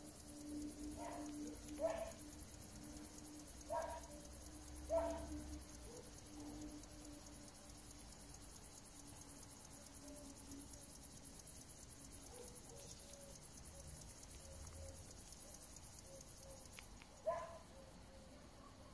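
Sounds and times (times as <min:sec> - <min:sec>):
crickets chirring: 0:00.0 - 0:18.9.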